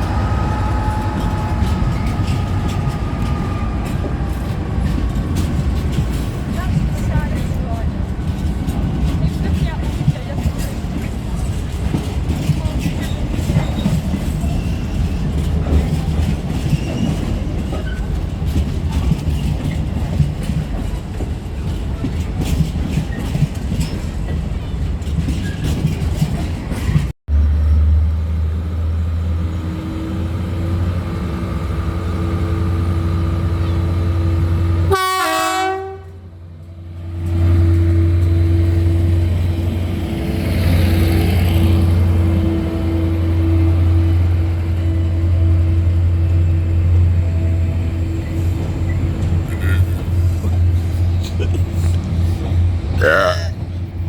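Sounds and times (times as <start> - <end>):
train engine low drone: 0.0 - 22.6, 26.6 - 54.0
train wheel clatter and rumble: 0.0 - 27.2, 28.1 - 54.0.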